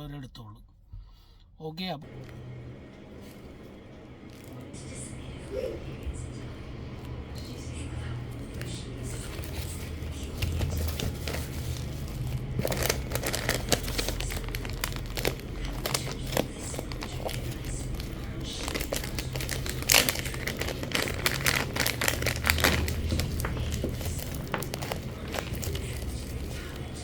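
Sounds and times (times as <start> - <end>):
plastic packaging crinkling: 2.0 - 5.4, 6.3 - 27.0.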